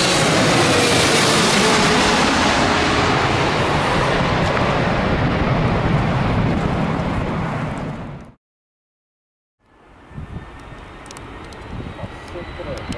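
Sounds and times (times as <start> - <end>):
jet engine rushing: 0.0 - 8.4, 10.0 - 12.9.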